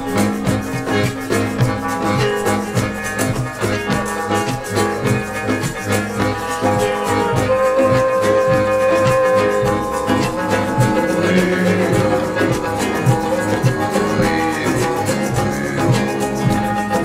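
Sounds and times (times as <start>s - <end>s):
band music with steady beat: 0.0s - 17.0s
rattling percussion: 0.0s - 17.0s.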